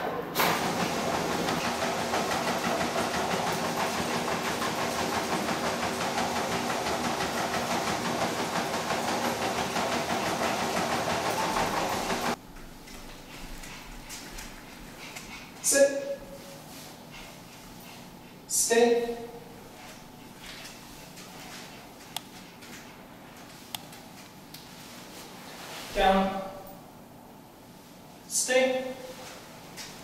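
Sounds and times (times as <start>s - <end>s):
treadmill belt clatter: 0.0s - 25.7s, 28.9s - 30.0s
treadmill motor whine: 0.0s - 26.8s.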